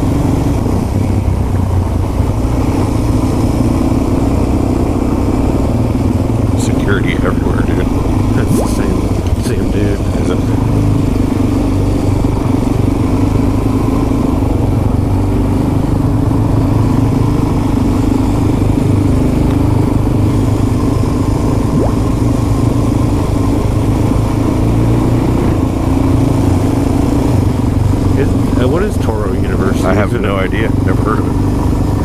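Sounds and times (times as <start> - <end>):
motorcycle engine running steadily: 0.0 - 32.0.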